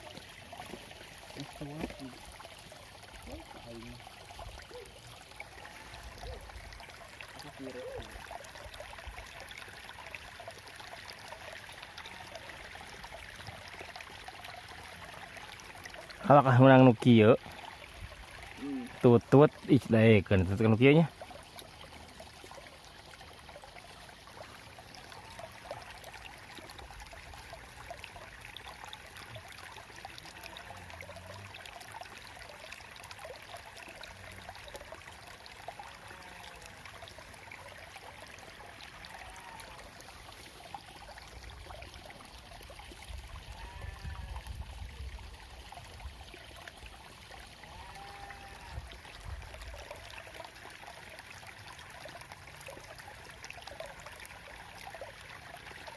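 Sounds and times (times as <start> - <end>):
water trickling in ditch: 0.0 - 55.9.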